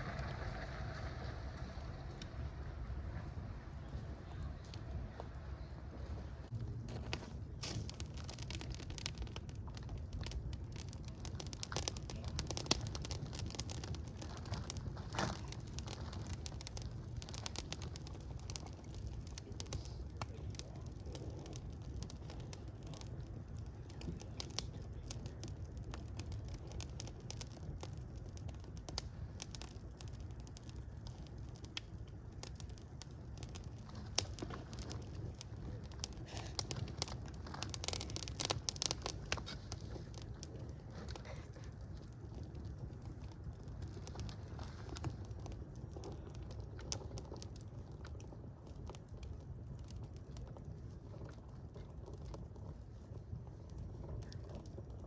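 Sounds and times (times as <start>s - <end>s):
fire crackling: 0.0s - 55.0s.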